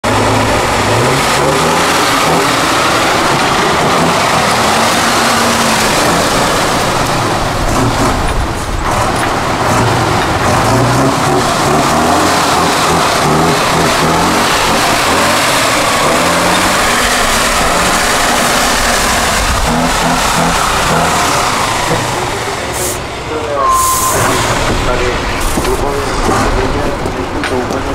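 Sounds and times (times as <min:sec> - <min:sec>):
truck diesel engine revving: 0:00.0 - 0:27.9.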